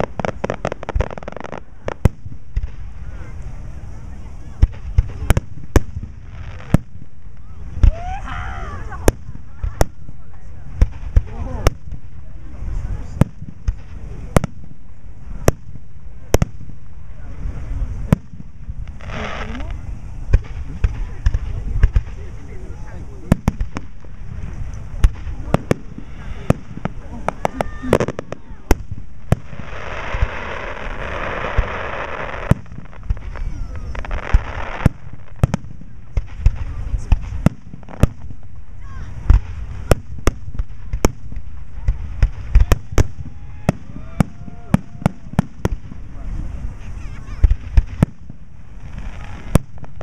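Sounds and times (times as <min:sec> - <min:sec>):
dense rush of noise: 0:00.0 - 0:50.0
fireworks bangs: 0:00.0 - 0:50.0.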